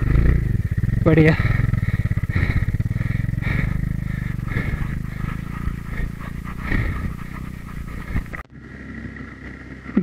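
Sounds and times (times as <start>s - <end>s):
motorcycle engine pulling away: 0.0s - 10.0s.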